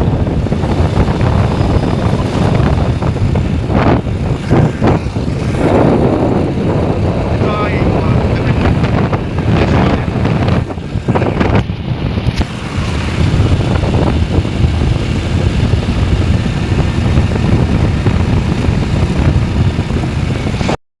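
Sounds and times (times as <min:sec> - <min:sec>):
vehicle low rumble: 0:00.0 - 0:20.8
wind buffeting microphone: 0:00.0 - 0:20.8.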